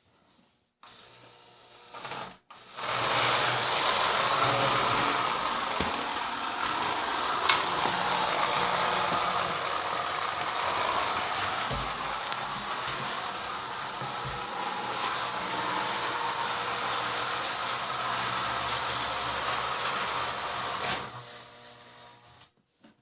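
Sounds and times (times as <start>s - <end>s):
toy train whirring and rattling: 0.8s - 22.5s.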